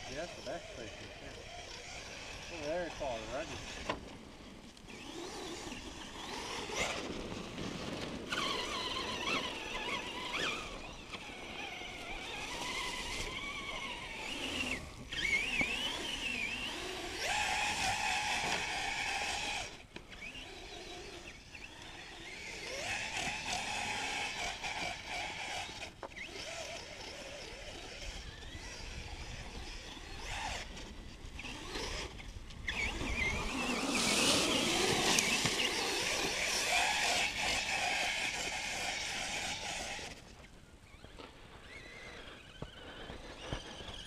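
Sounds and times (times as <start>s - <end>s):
rc truck electric motor whining: 0.0s - 44.0s.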